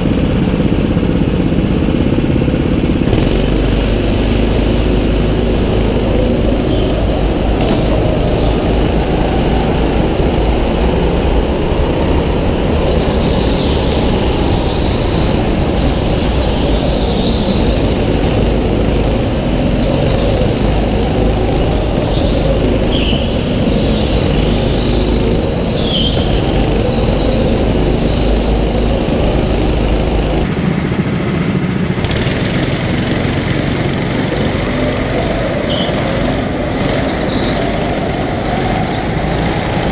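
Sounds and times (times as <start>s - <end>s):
go-kart engine running hard: 0.0s - 39.9s
other karts nearby: 0.0s - 39.9s.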